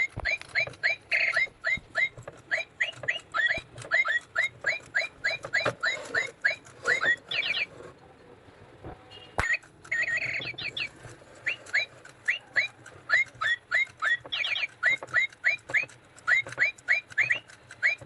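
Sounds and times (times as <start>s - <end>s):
toy bird chirping: 0.0s - 7.7s, 9.1s - 18.0s.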